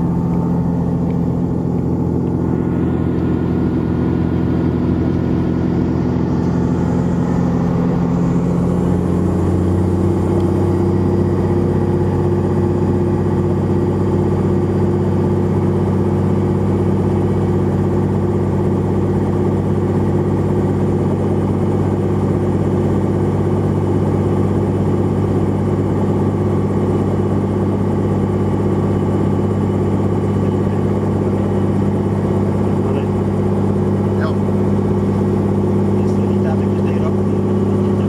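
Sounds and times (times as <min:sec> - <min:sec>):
helicopter engine and rotor drone: 0:00.0 - 0:38.0.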